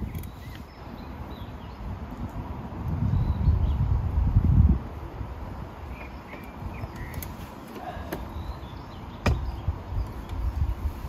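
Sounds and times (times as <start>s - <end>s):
low wind: 0.0s - 11.0s.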